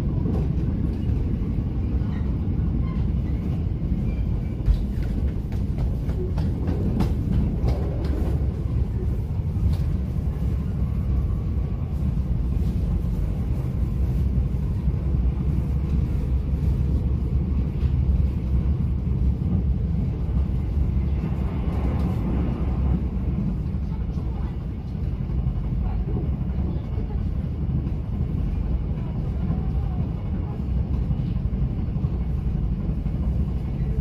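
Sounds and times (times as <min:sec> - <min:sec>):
train running low rumble: 0:00.0 - 0:34.0.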